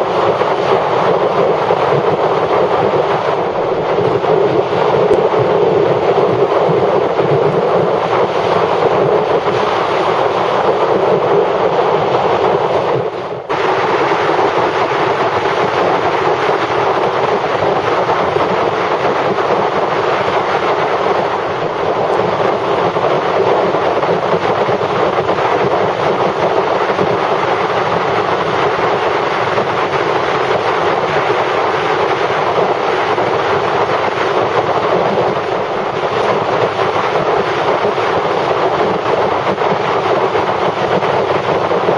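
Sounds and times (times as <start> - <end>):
wind rush and road noise: 0.0 - 41.9.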